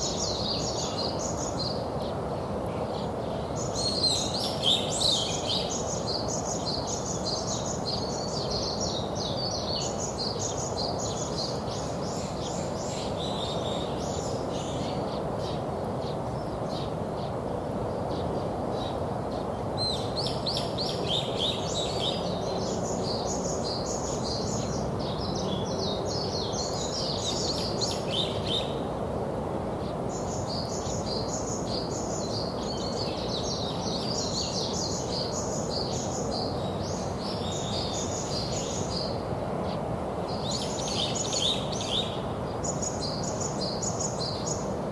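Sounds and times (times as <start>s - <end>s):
small songbirds chirping: 0.0s - 44.9s.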